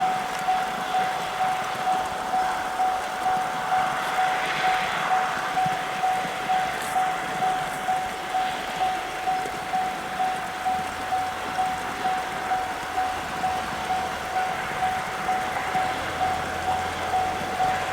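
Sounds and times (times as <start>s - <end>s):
level crossing warning bell: 0.0s - 17.9s.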